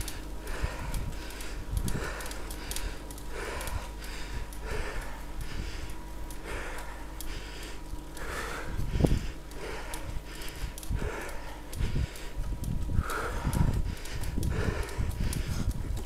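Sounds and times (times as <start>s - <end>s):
person panting hard: 0.0s - 16.0s
steady low rumble: 0.0s - 16.0s.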